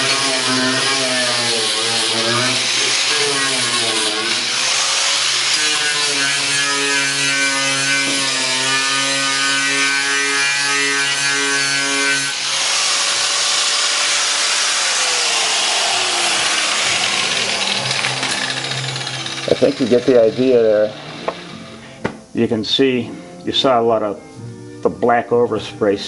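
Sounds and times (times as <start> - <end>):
angle grinder scraping metal: 0.0 - 22.0.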